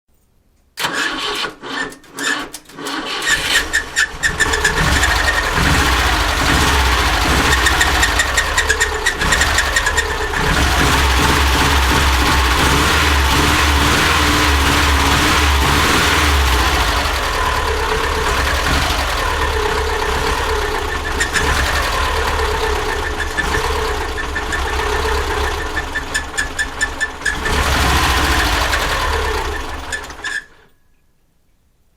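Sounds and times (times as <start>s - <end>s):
car engine cranking and starting: 0.8s - 30.7s.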